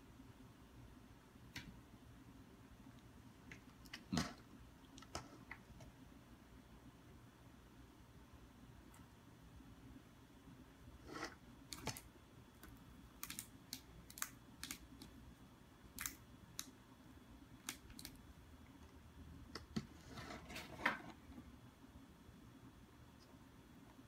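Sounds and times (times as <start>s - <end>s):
quiet room hum: 0.0s - 24.0s.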